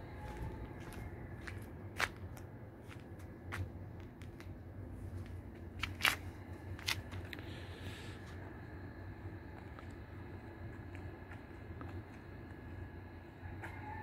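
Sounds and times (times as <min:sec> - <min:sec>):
footsteps crunching on sandy ground: 0:00.0 - 0:07.6, 0:09.4 - 0:14.0
low steady hum: 0:00.0 - 0:14.0.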